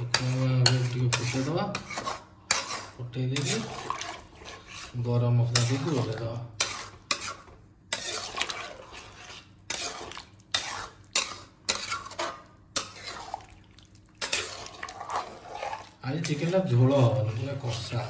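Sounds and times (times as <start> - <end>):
spatula scraping metal pan: 0.0 - 13.6, 14.2 - 18.0.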